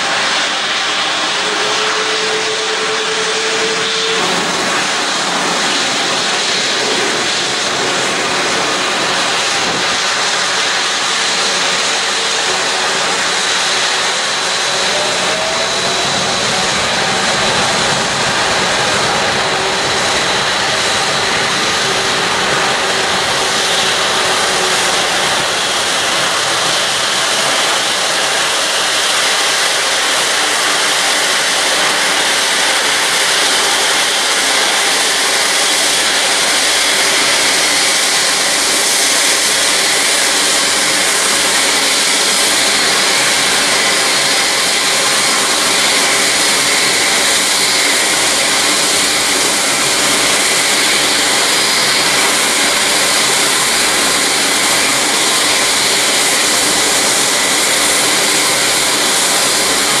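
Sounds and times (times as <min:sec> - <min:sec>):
jet engines roaring at takeoff: 0:00.0 - 1:00.0.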